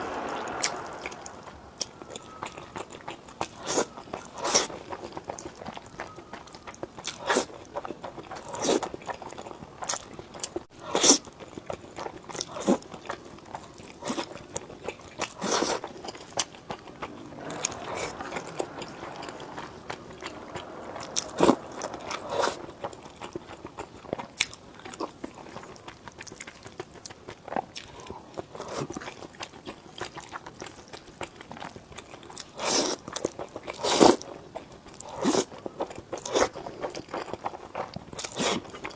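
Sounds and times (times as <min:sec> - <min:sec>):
chewing crunchy food: 0:02.1 - 0:38.9.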